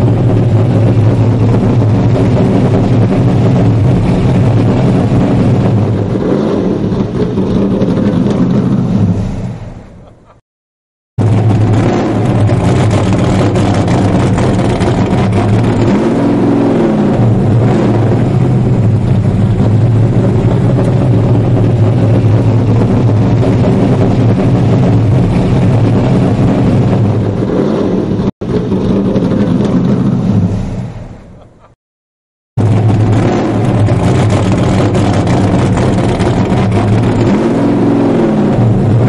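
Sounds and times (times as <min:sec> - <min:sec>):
loud engine running: 0:00.0 - 0:10.2, 0:11.2 - 0:31.8, 0:32.6 - 0:39.0.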